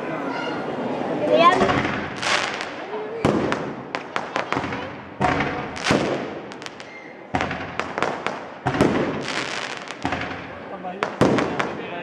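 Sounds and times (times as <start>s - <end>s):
fireworks bangs and pops: 1.5s - 12.0s
fireworks booms: 1.5s - 12.0s.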